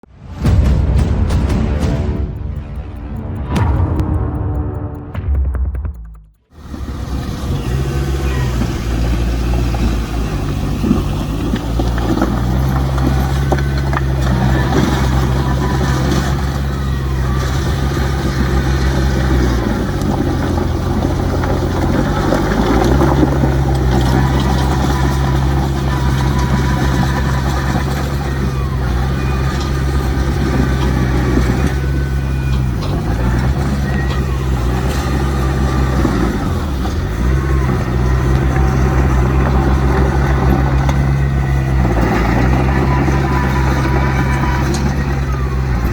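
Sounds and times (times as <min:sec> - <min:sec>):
diesel earthmoving machinery running: 0:00.0 - 0:05.3, 0:06.5 - 0:45.9.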